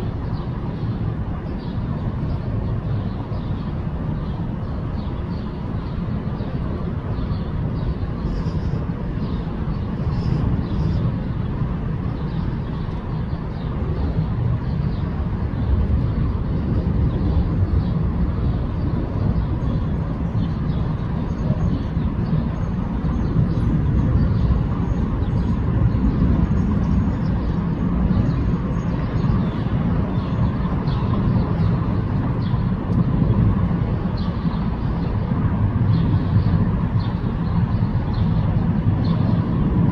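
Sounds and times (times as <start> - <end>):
low rumble of vehicle noise: 0.0 - 39.9.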